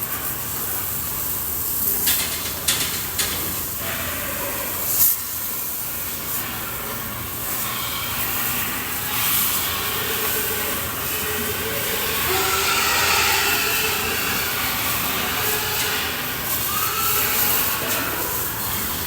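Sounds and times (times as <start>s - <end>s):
water jet spraying: 0.0s - 19.0s.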